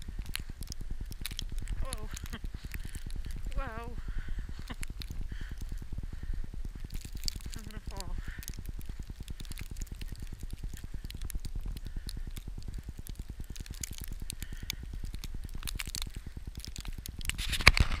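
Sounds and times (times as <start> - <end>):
crackling: 0.0 - 18.0
wind buffeting microphone: 0.0 - 18.0.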